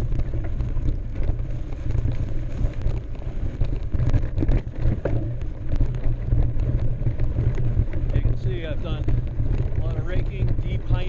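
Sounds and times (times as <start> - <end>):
bike tyres clicking and rattling: 0.0 - 11.0
wind buffeting microphone: 0.0 - 11.0.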